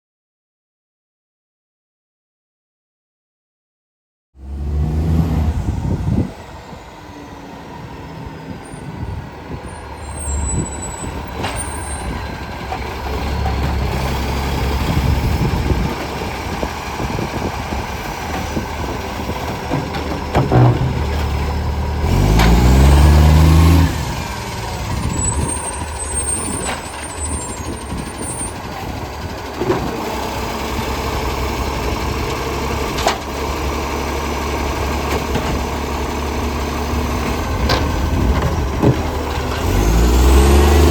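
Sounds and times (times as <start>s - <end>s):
garbage truck engine roaring: 4.4s - 40.9s.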